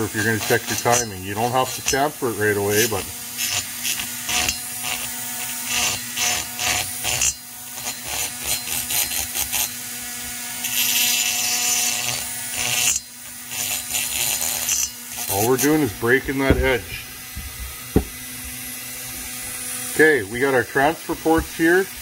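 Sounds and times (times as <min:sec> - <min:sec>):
rotary tool grinding metal: 0:00.0 - 0:22.0.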